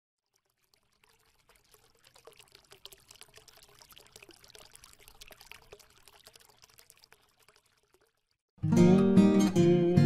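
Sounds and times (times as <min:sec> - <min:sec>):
small clicks and splashes: 0:00.2 - 0:08.5
water trickling and bubbling: 0:00.2 - 0:08.5.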